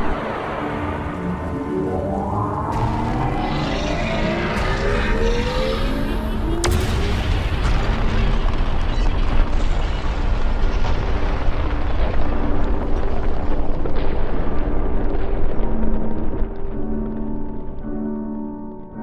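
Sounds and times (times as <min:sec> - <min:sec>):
explosion rumble with crackling: 0:00.0 - 0:19.0.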